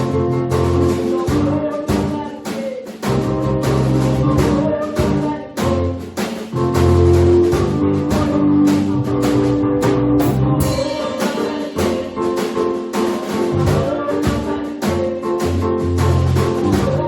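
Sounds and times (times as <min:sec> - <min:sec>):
bass line: 0:00.0 - 0:02.3, 0:03.0 - 0:11.1, 0:13.4 - 0:17.0
live band music: 0:00.0 - 0:17.0
steady drum beat: 0:00.0 - 0:17.0.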